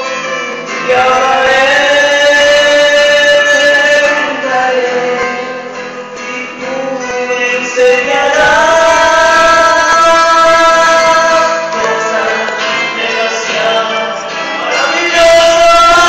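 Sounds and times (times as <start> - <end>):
instrumental accompaniment: 0.0 - 16.0
person singing worship song: 0.1 - 16.0.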